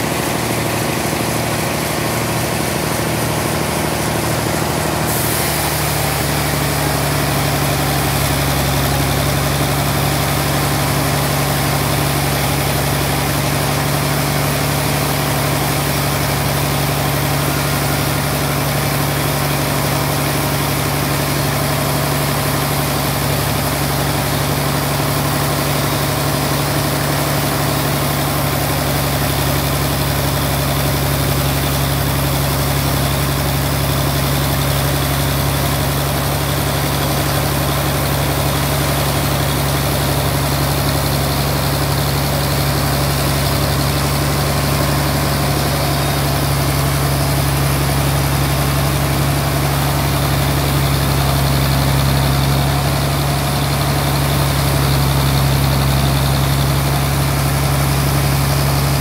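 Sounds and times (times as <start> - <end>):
band saw engine hum: 0.0 - 59.0.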